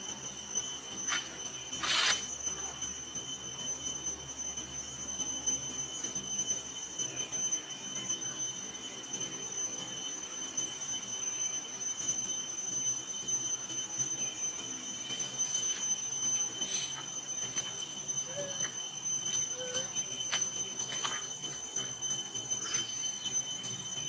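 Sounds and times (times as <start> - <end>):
steady high-pitched whine: 0.0 - 24.0.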